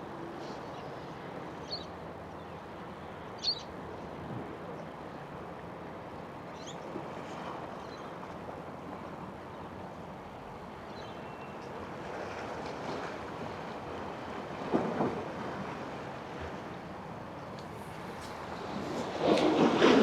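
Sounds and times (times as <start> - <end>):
boat engines and water: 0.0 - 20.0.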